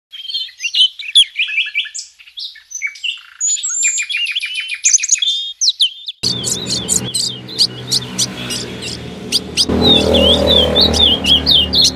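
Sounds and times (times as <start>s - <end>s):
songbird chirps and trills: 0.1s - 11.9s.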